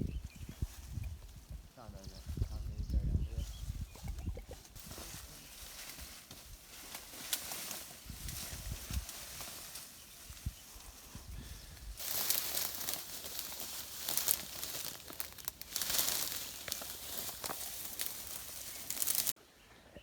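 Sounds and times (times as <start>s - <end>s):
brush and leaves rustling: 0.0s - 19.4s.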